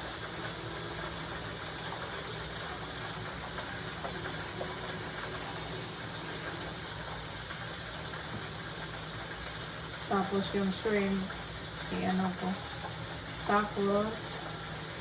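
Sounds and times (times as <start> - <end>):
low mechanical hum with hiss: 0.0 - 15.0.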